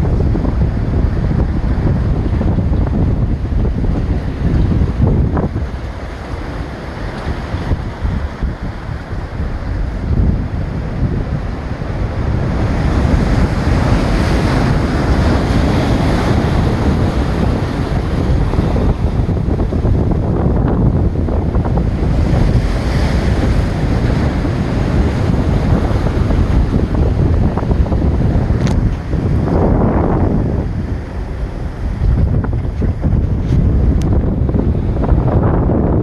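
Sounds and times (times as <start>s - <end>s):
waves crashing against a jetty: 0.0s - 36.0s
wind buffeting microphone: 0.0s - 36.0s.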